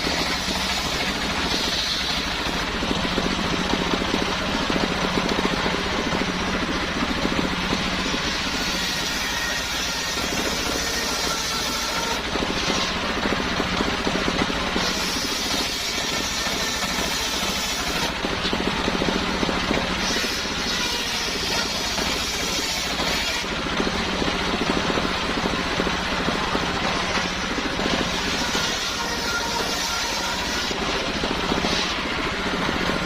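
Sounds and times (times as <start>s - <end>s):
engine-driven circular saw sawing wood: 0.0s - 33.0s.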